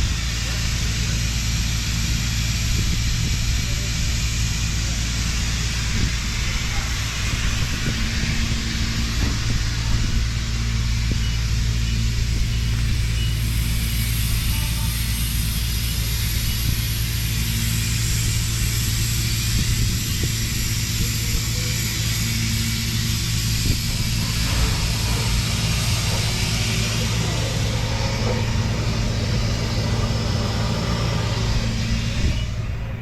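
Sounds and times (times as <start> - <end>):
abrasive blasting hiss: 0.0 - 33.0
air compressor engine droning: 0.0 - 33.0.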